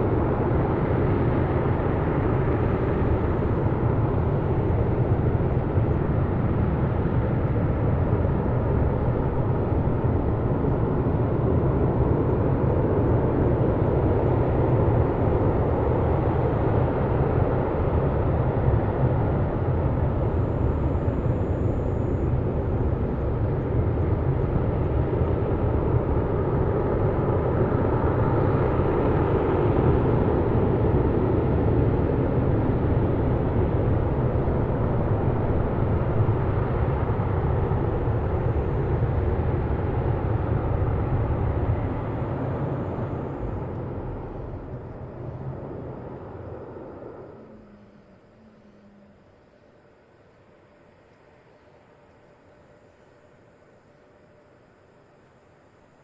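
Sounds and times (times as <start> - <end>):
distant rocket engine rumble: 0.0 - 51.0.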